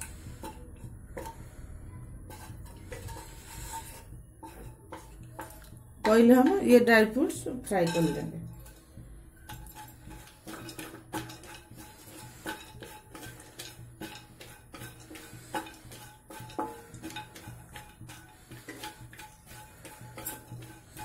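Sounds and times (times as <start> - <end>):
wooden spatula scraping a pan: 0.0 - 21.0.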